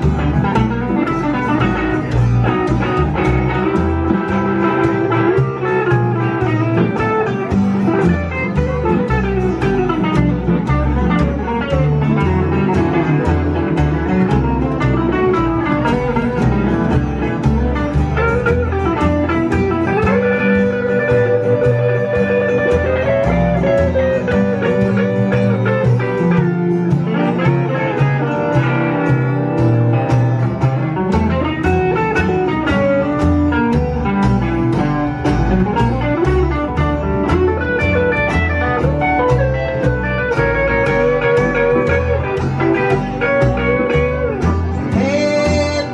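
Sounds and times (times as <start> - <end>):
electric guitar playing: 0.0 - 45.9
slapped upright bass: 0.0 - 45.9.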